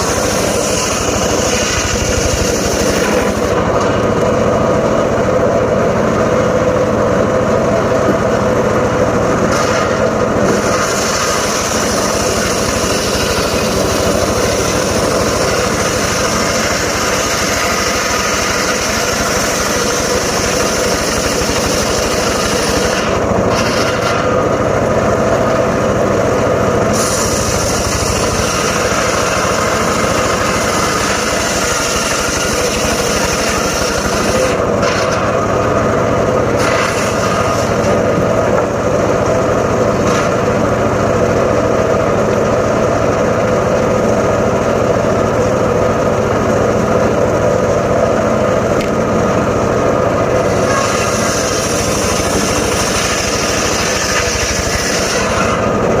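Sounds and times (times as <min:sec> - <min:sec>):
engine-driven circular saw cutting wood: 0:00.0 - 0:56.0.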